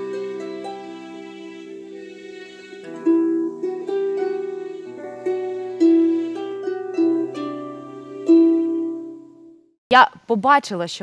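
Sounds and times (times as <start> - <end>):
harp melody plucked: 0.0 - 9.5.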